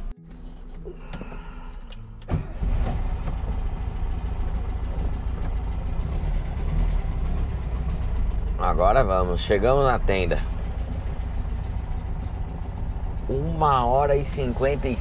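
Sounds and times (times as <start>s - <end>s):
car engine cranking: 0.0s - 15.0s
car engine idling: 0.0s - 15.0s.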